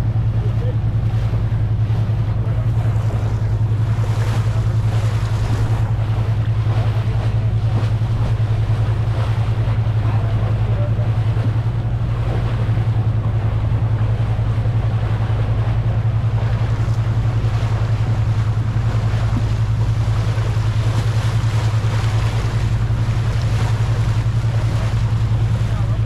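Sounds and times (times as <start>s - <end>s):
boat engine droning: 0.0s - 26.0s
water rushing along hull: 0.0s - 26.0s
wind buffeting microphone: 0.0s - 26.0s.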